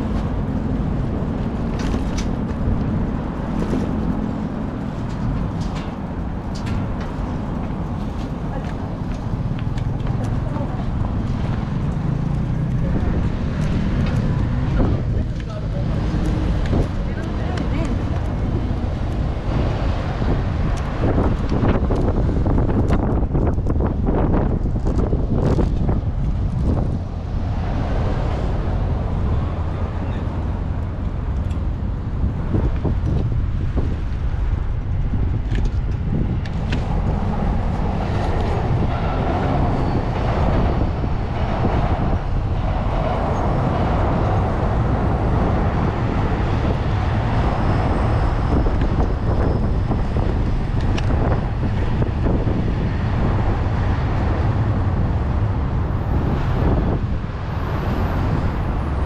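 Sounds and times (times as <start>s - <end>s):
street traffic passing: 0.0s - 59.0s
wind rumble on microphone: 0.0s - 59.0s.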